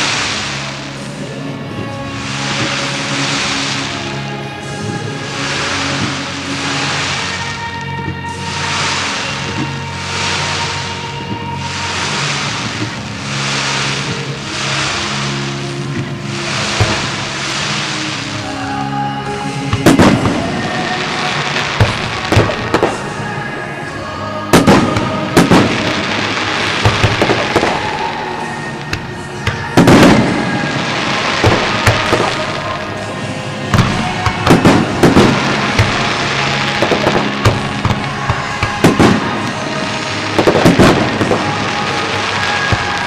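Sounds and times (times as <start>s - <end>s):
fireworks bursting: 0.0s - 43.0s
music playing: 0.0s - 43.0s.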